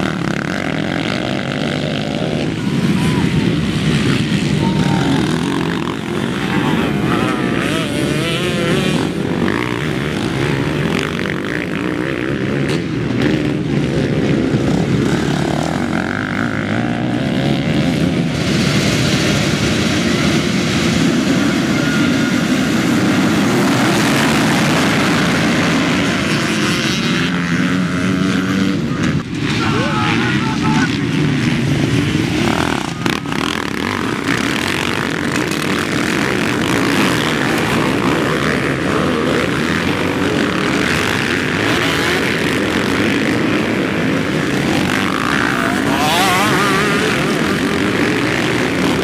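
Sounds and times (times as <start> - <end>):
many motocross bikes revving: 0.0 - 49.0
motocross bikes revving past: 0.0 - 49.0.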